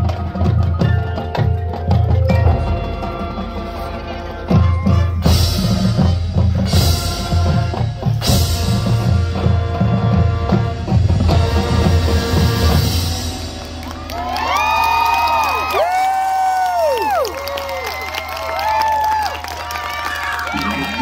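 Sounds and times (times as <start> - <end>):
marching band playing: 0.0 - 16.2, 18.3 - 21.0.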